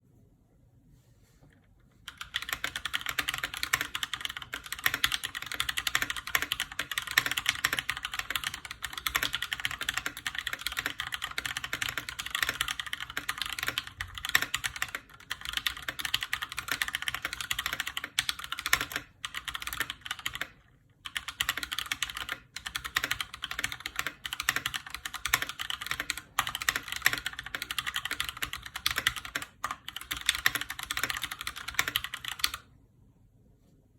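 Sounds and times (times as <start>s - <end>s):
fast mechanical keyboard typing: 2.0s - 32.7s.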